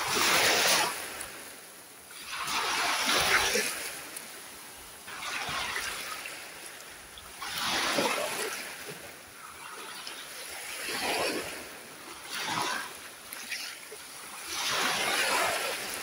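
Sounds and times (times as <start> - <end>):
small waves washing on sandy shore: 0.0 - 16.0.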